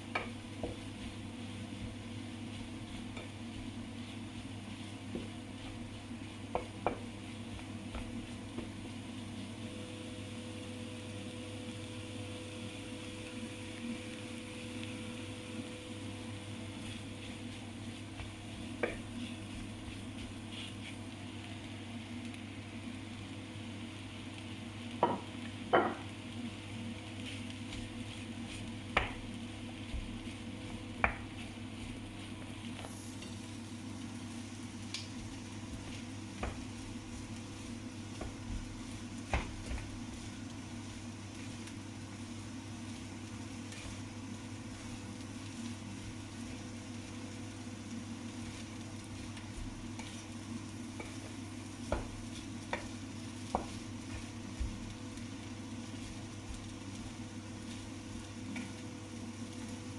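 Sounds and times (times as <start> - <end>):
food sizzling on a griddle: 0.0 - 59.9.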